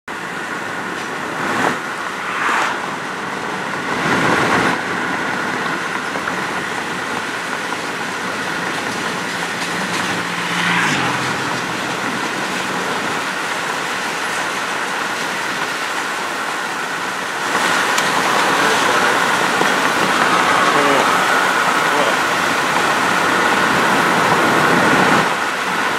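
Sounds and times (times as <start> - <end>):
road and tyre noise in car: 0.1 - 25.9.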